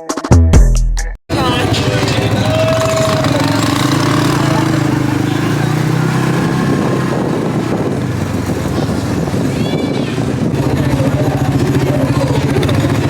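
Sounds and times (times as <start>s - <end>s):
quad bike engine running: 1.3s - 13.0s.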